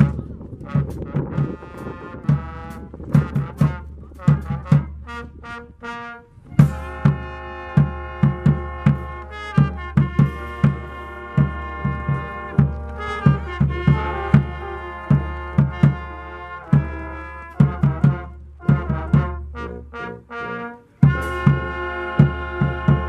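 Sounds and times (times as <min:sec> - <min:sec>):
steady drum beat: 0:00.0 - 0:05.2, 0:06.6 - 0:19.9, 0:21.0 - 0:23.0
brass band playing: 0:00.0 - 0:23.0.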